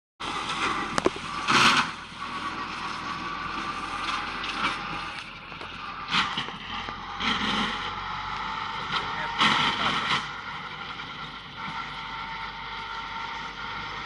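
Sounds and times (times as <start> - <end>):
tractor diesel engine running: 0.2 - 14.0.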